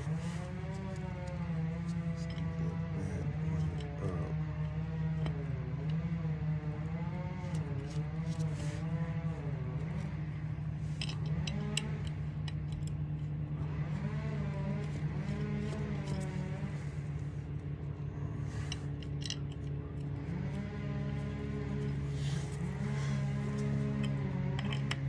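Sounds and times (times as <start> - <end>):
low drone: 0.0 - 25.0.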